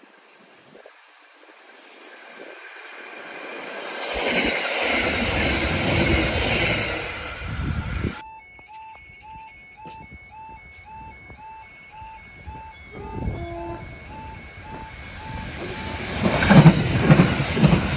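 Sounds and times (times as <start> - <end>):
electric train passing: 0.0 - 8.2, 10.3 - 17.9.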